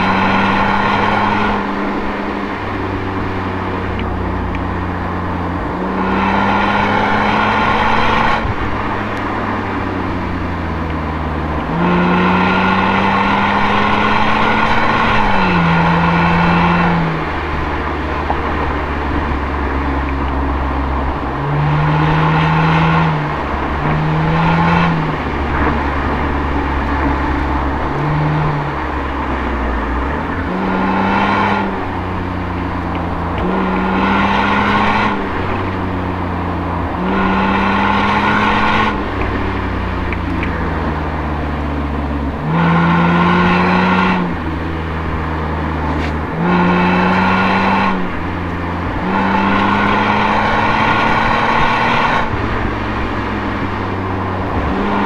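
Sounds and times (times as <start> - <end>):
car exhaust note revving: 0.0 - 55.0.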